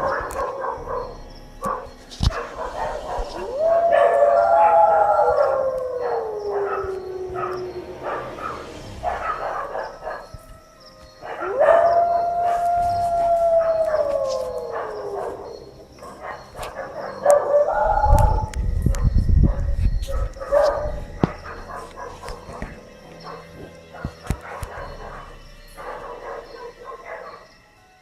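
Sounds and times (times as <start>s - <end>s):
dog howling: 0.0s - 10.5s, 11.2s - 27.5s.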